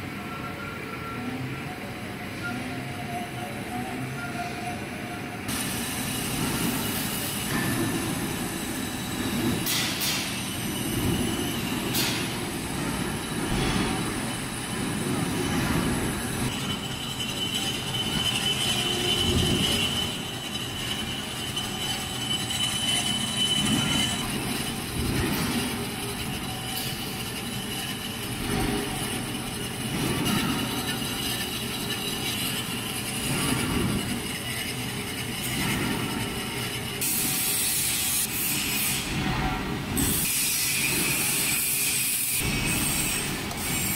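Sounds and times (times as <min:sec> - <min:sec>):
high squeal of cutting tool: 0:00.4 - 0:43.9
metal lathe rumble: 0:05.4 - 0:43.9.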